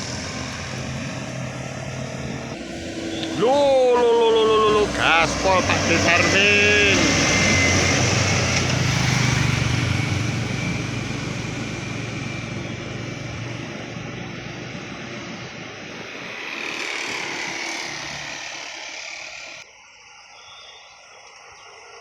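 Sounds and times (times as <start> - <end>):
heavy vehicle engine passing: 0.0 - 19.6
second vehicle passing: 0.0 - 19.6.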